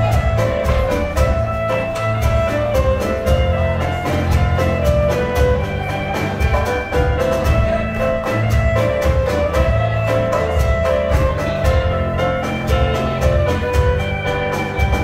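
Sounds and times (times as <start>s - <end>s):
live dance band playing: 0.0s - 15.0s.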